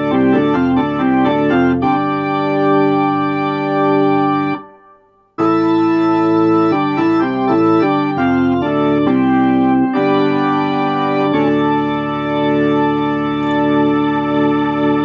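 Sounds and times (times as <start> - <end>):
organ chords through rotating speaker: 0.0 - 15.0.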